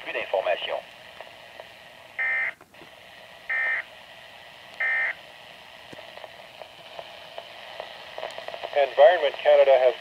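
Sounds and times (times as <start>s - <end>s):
faint radio hiss: 0.0s - 10.0s.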